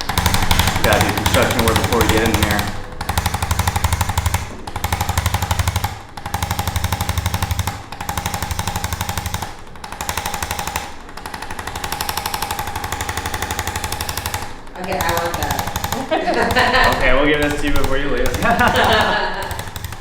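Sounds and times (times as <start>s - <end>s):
electric percussion tool hammering: 0.0s - 20.0s.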